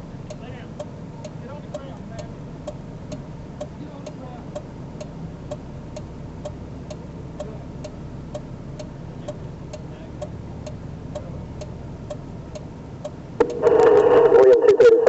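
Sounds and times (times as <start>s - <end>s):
car engine idling: 0.0s - 14.6s.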